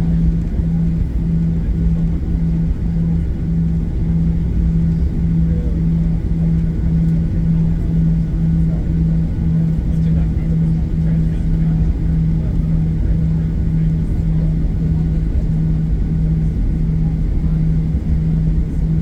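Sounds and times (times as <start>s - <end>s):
jet engines idling rumble: 0.0s - 19.0s.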